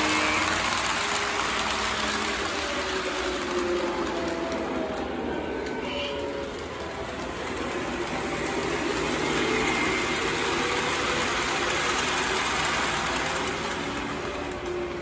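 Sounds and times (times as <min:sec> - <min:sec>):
model train wheels rumbling on rails: 0:00.0 - 0:15.0.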